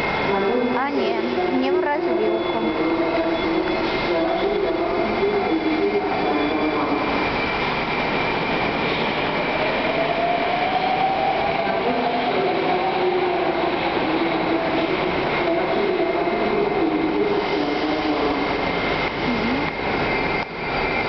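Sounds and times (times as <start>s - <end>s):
metro train wheels rumbling: 0.0s - 21.0s
wavering whine: 0.0s - 21.0s.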